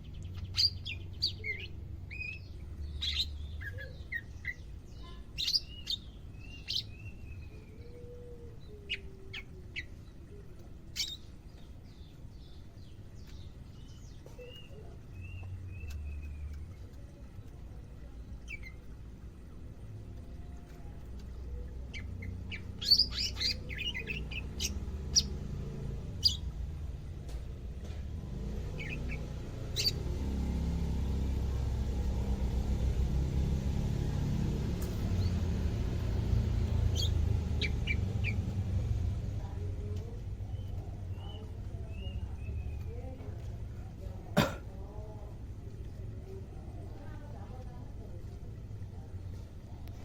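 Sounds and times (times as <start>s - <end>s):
bird chirping: 0.0s - 33.6s, 34.6s - 43.4s.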